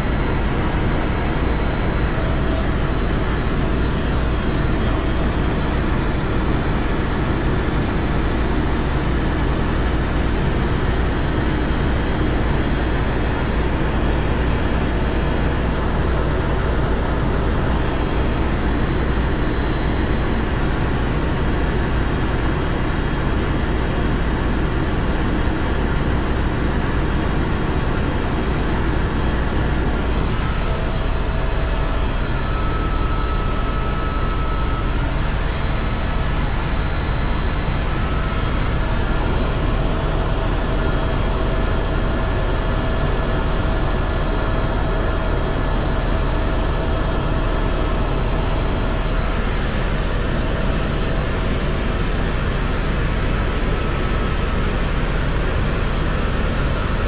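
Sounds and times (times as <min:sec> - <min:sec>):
engine and airflow noise: 0:00.0 - 0:57.0
faint steady whine: 0:00.0 - 0:57.0.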